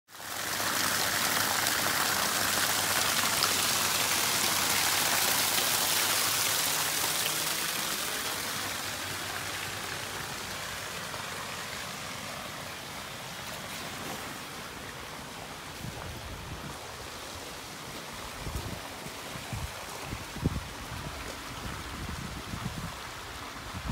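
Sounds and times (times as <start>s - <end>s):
water gushing from a pipe: 0.1s - 23.9s
water splashing into floodwater: 0.1s - 23.9s.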